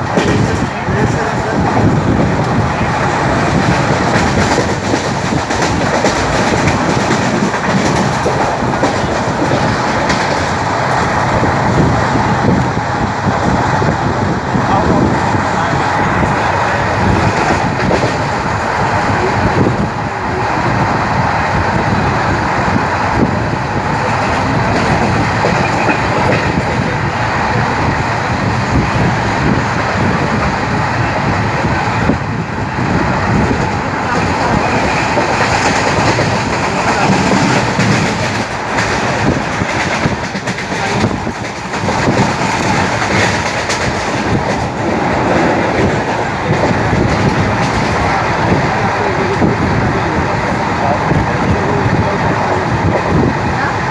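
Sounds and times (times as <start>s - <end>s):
train wheels clattering on rails: 0.0s - 14.0s, 14.8s - 19.9s, 21.5s - 53.9s.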